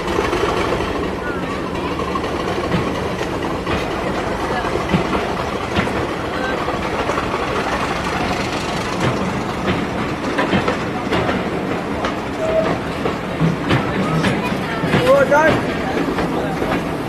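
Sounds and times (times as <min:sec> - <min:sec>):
train coaches rolling past: 0:00.0 - 0:17.0
wheels clicking over rail joints: 0:00.0 - 0:17.0.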